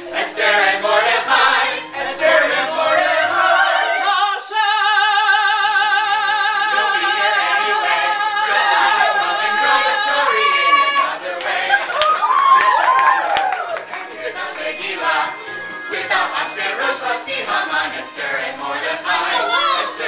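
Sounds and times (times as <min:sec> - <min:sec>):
mixed group singing in harmony: 0:00.0 - 0:12.4, 0:13.7 - 0:20.0.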